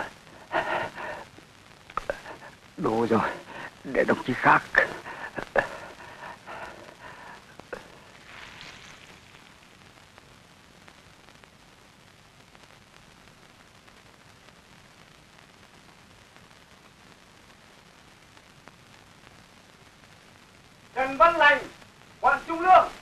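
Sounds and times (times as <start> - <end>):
film soundtrack hiss: 0.0 - 23.0.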